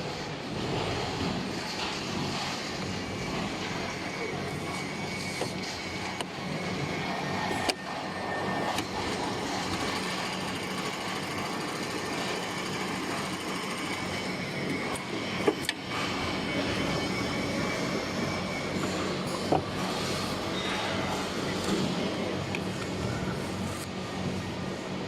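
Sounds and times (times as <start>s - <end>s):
sewing machine whirring: 0.7s - 21.6s.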